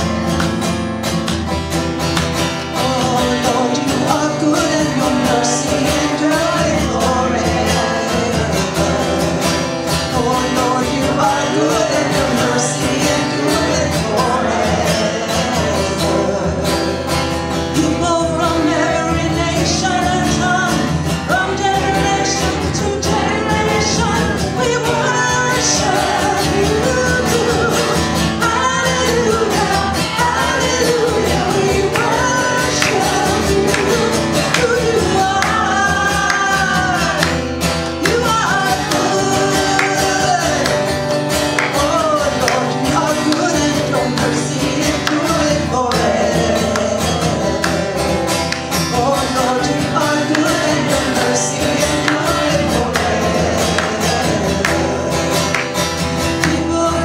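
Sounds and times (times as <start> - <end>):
acoustic guitar strumming: 0.0 - 57.0
woman singing worship song: 2.8 - 16.6, 17.8 - 41.0, 41.6 - 57.0.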